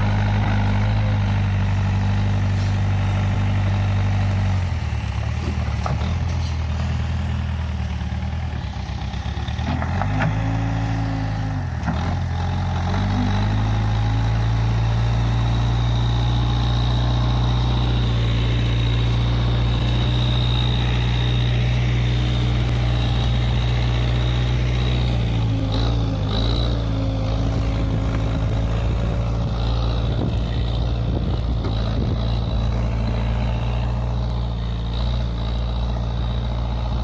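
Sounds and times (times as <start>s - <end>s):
backhoe engine running: 0.0s - 37.0s.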